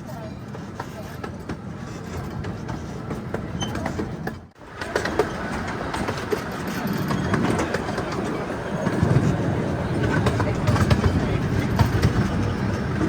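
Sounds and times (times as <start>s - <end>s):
train rumbling on track: 0.0s - 13.0s
wheels clicking: 0.4s - 13.0s.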